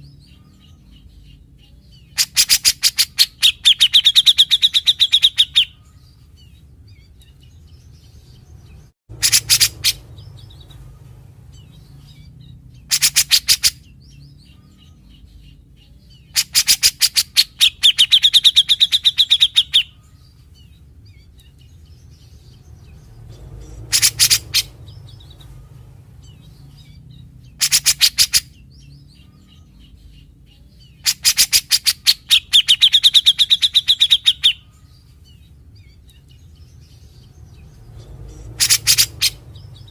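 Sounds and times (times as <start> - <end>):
faint bird chirps: 0.0 - 39.9
bulbul stuttering sharp calls: 1.9 - 6.1, 8.2 - 10.9, 11.5 - 15.3, 16.2 - 20.3, 21.1 - 39.9.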